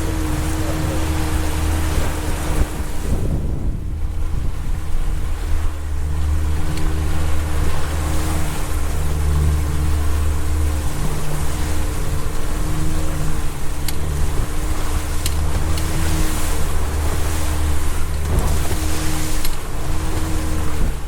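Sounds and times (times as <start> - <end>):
boat motor droning: 0.0 - 21.0
water rushing against hull: 0.0 - 21.0
wind: 0.0 - 21.0.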